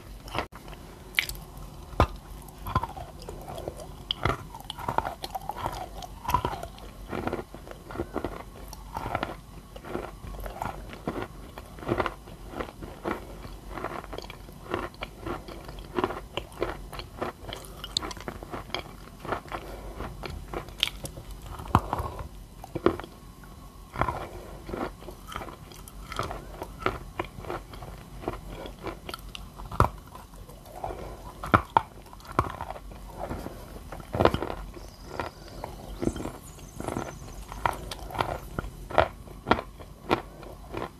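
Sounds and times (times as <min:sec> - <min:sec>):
wet clay chewing crunches: 0:00.0 - 0:40.9.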